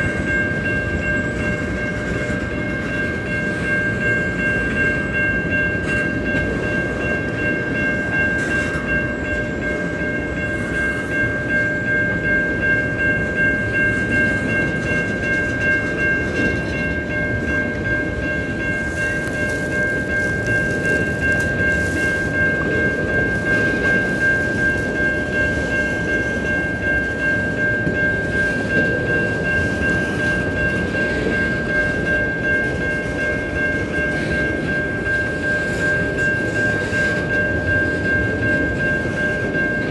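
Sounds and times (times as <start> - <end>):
high-pitched ringing tone: 0.0 - 39.9
train wheels rumbling on rails: 0.0 - 39.9.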